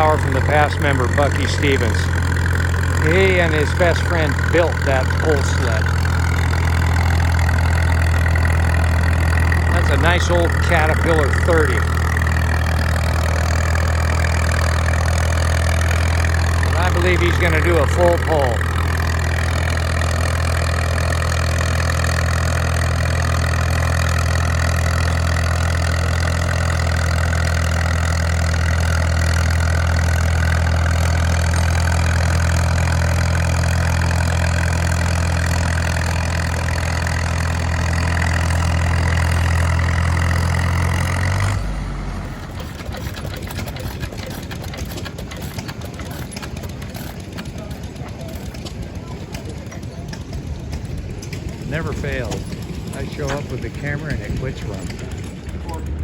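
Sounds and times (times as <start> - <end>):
crawler tractor engine running: 0.0 - 56.0.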